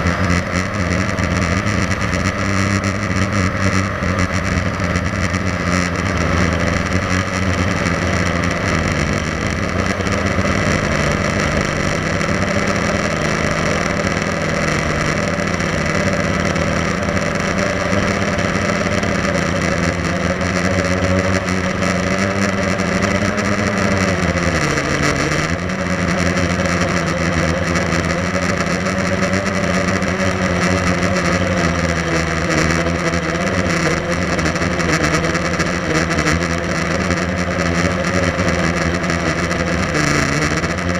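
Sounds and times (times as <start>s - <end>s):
quadcopter propellers buzzing: 0.0s - 40.9s.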